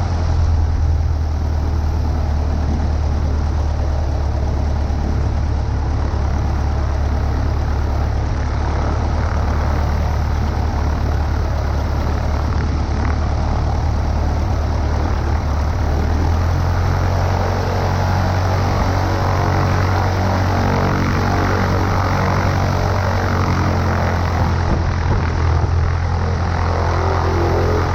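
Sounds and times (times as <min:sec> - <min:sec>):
propeller plane engine droning: 0:00.0 - 0:27.9.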